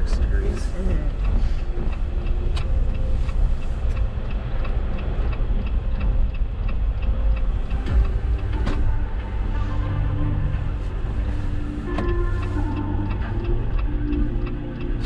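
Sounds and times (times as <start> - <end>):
car engine rumble: 0.0 - 15.0
turn signal clicking: 0.0 - 15.0
tyres on wet road: 0.0 - 15.0.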